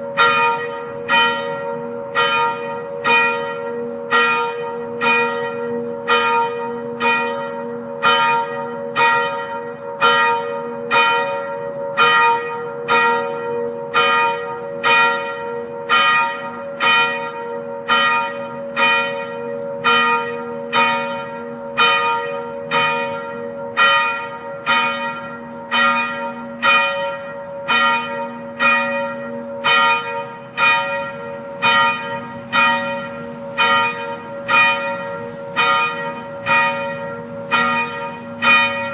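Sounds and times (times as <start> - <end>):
church bell tolling: 0.0 - 38.9.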